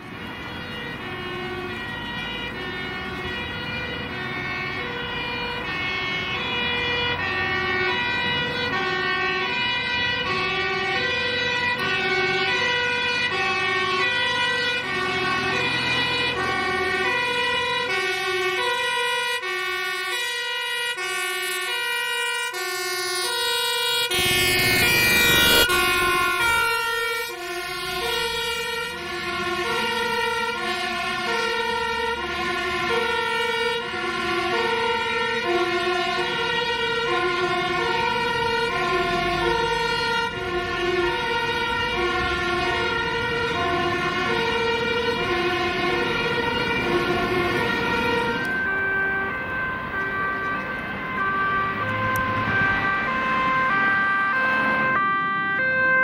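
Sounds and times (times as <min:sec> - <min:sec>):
engine and road noise: 0:00.0 - 0:56.0
fire engine two-tone siren: 0:00.0 - 0:56.0.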